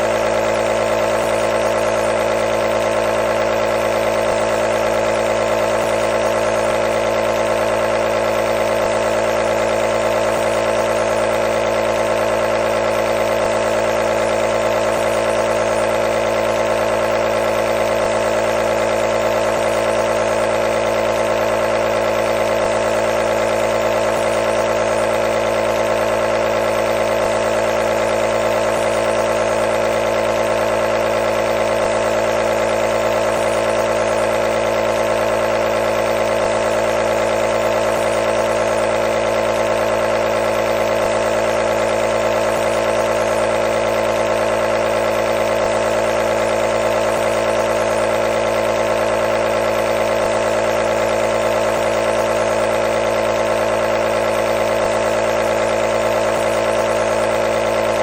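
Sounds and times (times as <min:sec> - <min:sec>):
nebulizer motor humming: 0:00.0 - 0:58.0.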